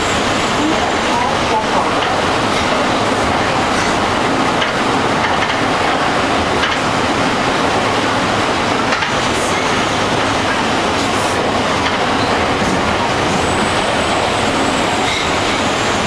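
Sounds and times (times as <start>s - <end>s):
subway train running in tunnel: 0.0s - 16.0s.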